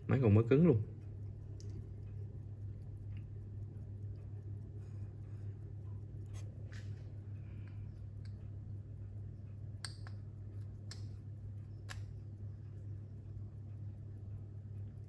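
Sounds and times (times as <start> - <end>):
small sharp clicks: 0.0 - 15.0
steady low hum: 0.0 - 15.0.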